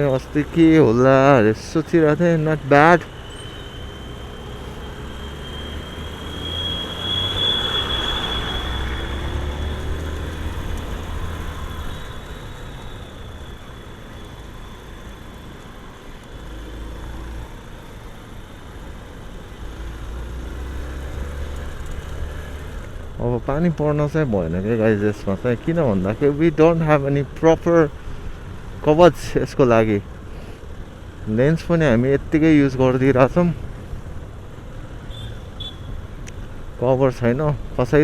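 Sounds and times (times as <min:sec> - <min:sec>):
motorcycle engine and road rumble: 0:00.0 - 0:38.0.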